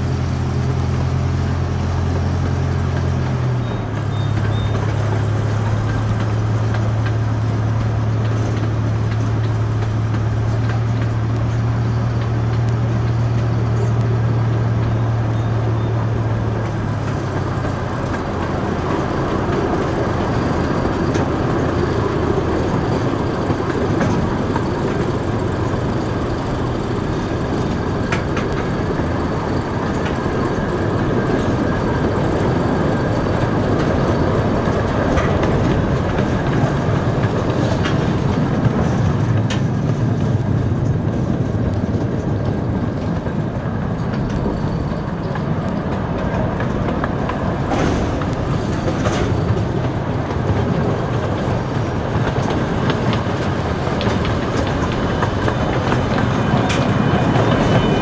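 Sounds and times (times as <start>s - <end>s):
miniature train wheels rumbling on rail: 0.0s - 58.0s.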